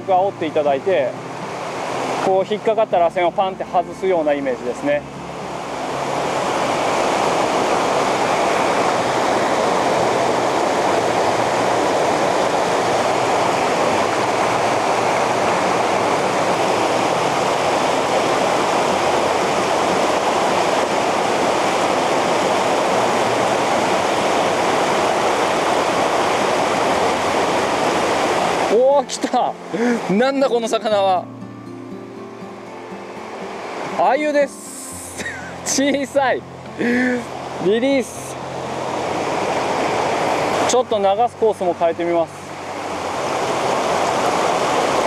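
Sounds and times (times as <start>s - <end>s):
river water rushing over stones: 0.0s - 45.0s.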